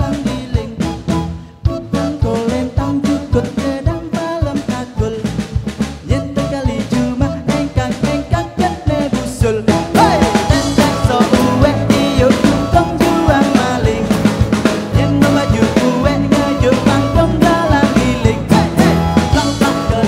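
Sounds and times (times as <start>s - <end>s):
drums beating steadily: 0.0s - 20.0s
fusion band playing: 0.0s - 20.0s.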